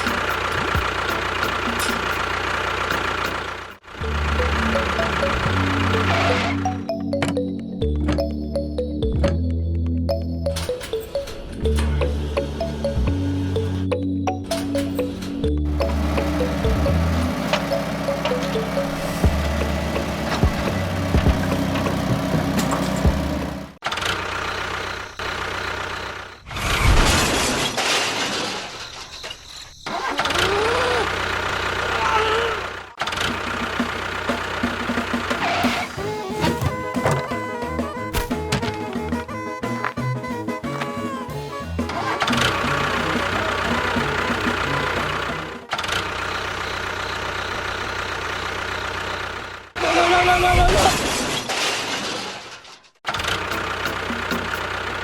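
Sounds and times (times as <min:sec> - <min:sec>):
engine running: 0:00.0 - 0:09.2, 0:10.1 - 0:26.8, 0:29.9 - 0:50.3, 0:53.1 - 0:55.0.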